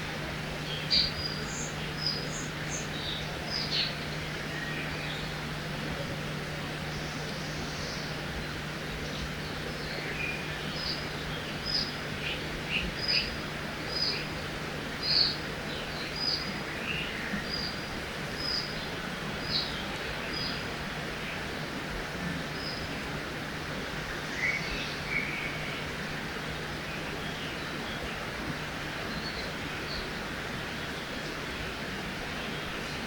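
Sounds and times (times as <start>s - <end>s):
flowing river water: 0.0s - 33.0s
songbirds calling: 0.1s - 21.6s, 24.0s - 33.0s.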